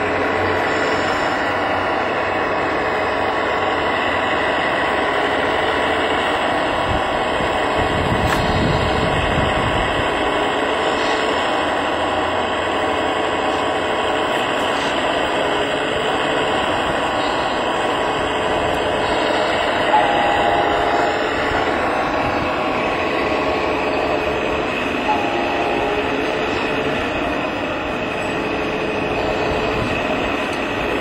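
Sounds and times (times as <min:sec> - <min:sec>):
hydraulic pump whine: 0:00.0 - 0:31.0.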